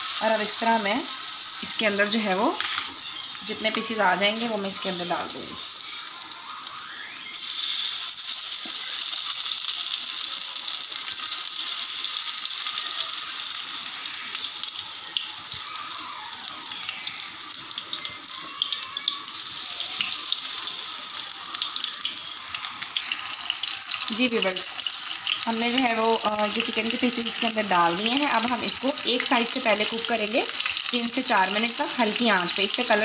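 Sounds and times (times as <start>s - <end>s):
chicken sizzling in hot oil: 0.0s - 33.0s.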